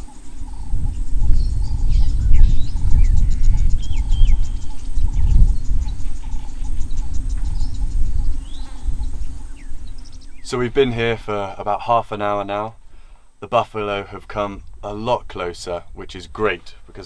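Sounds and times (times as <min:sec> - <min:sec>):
wind rumbling on microphone: 0:00.0 - 0:13.0, 0:13.9 - 0:17.0.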